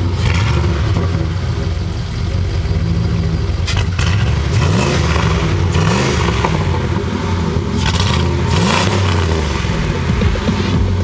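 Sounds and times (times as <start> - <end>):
deep engine exhaust note: 0.0 - 11.0.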